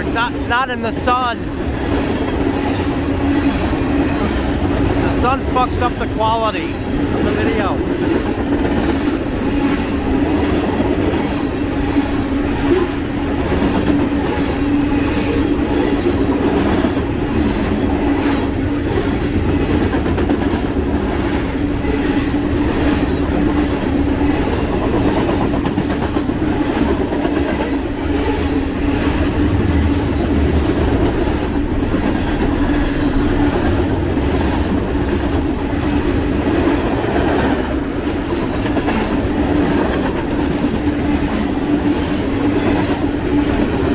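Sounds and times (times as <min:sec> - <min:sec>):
freight train rumble and hum: 0:00.0 - 0:43.9
train wheels clacking over rail joints: 0:00.0 - 0:43.9.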